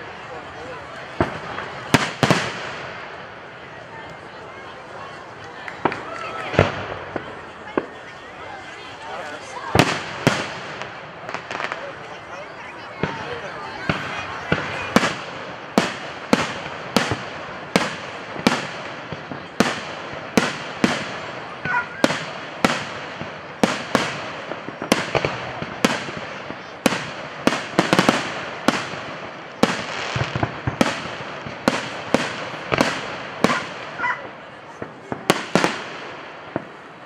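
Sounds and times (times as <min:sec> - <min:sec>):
fireworks booming: 0:00.0 - 0:37.0
fireworks crackle and rumble: 0:00.0 - 0:37.0.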